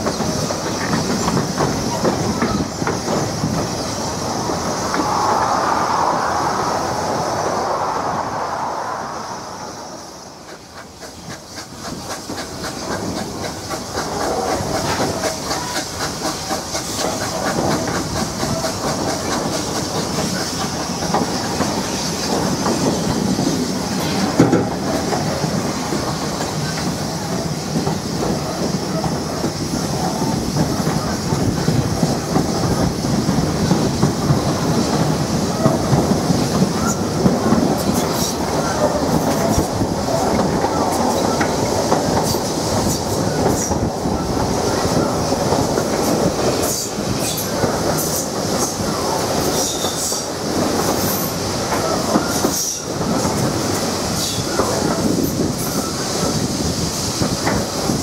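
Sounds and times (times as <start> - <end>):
clickety-clack of wheels: 0.0 - 4.0, 10.4 - 58.0
train wheels rumbling on rail: 0.0 - 58.0.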